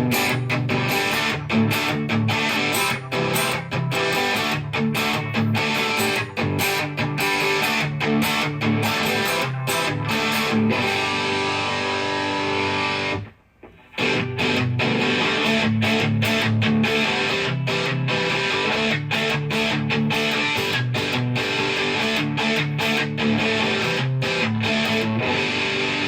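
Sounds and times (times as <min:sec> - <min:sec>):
electric guitar chords: 0:00.0 - 0:26.0.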